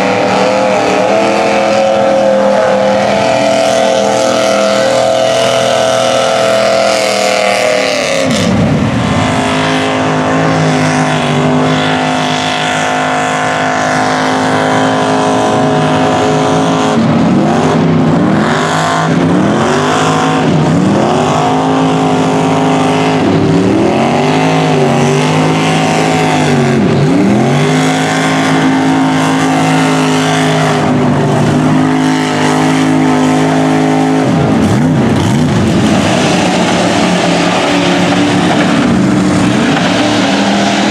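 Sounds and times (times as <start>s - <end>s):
tires churning through mud: 0.0s - 40.9s
truck engines revving: 0.0s - 40.9s.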